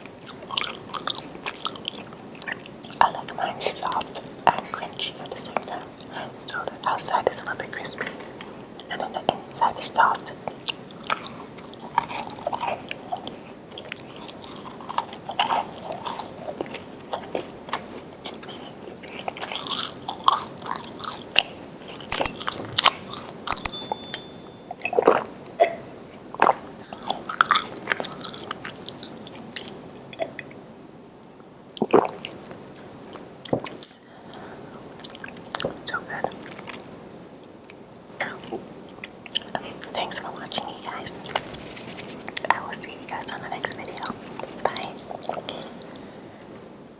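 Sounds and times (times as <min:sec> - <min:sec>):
person chewing crunchy cookies: 0:00.1 - 0:25.3, 0:26.2 - 0:30.4, 0:38.1 - 0:46.6.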